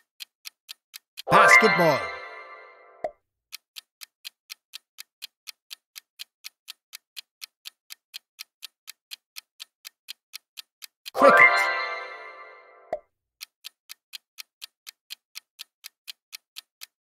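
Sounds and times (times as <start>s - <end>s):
clock ticks: 0.0s - 17.0s.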